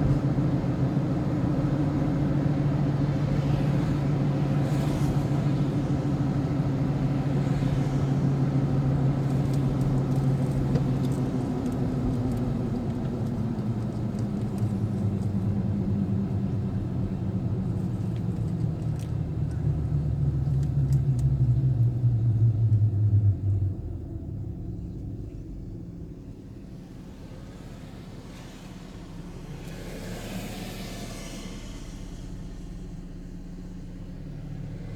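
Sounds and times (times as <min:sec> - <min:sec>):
road noise: 0:00.0 - 0:34.9
vehicle engine: 0:00.0 - 0:34.9.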